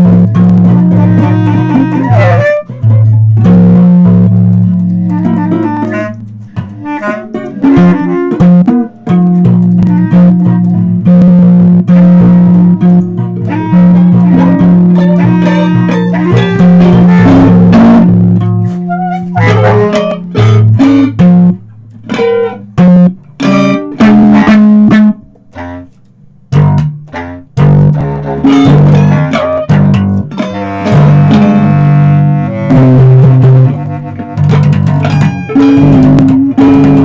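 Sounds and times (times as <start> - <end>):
electric bass low notes: 0.0 - 37.0
guitar plucked and strummed: 0.0 - 37.0.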